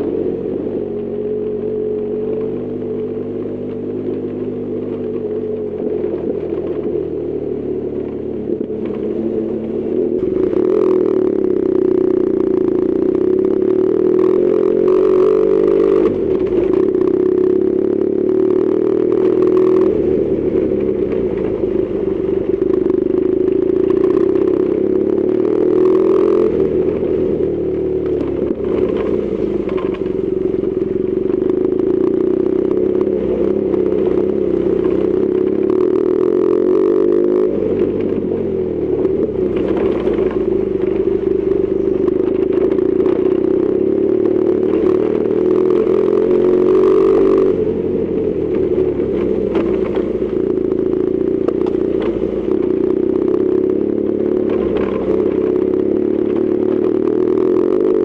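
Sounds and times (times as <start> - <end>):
motorcycle engine revving: 0.0 - 58.0
tyres on gravel road: 0.0 - 58.0.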